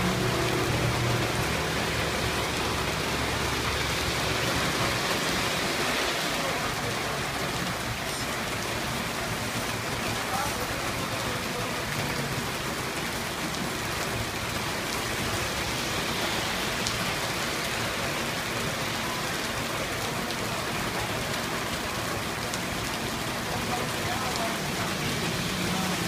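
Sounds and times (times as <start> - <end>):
heavy rain on flooded street: 0.0 - 26.0.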